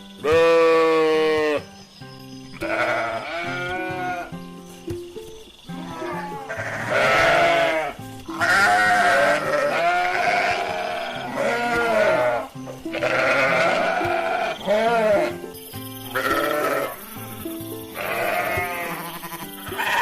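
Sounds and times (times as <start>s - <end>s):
background music: 0.0s - 20.0s
sheep bleating: 0.2s - 1.6s, 2.5s - 4.4s, 5.7s - 15.5s, 16.1s - 17.3s, 17.9s - 20.0s.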